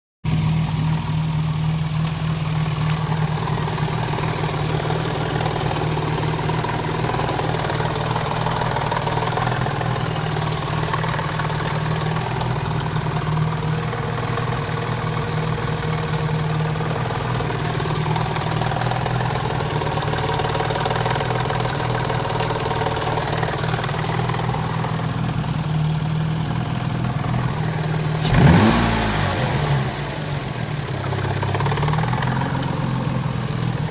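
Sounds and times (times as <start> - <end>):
engine idling with knock: 0.3 - 33.9.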